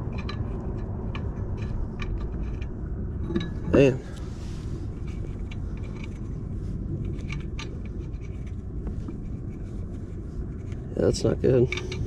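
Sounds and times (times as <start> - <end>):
lug nut clicking and scraping: 0.0 - 12.0
steady low rumble: 0.0 - 12.0.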